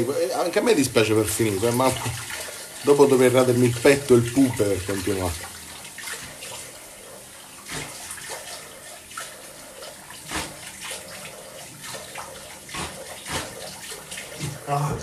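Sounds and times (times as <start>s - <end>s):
water running from tap: 0.0s - 15.0s
water splashing onto face: 1.6s - 6.7s, 7.6s - 14.6s.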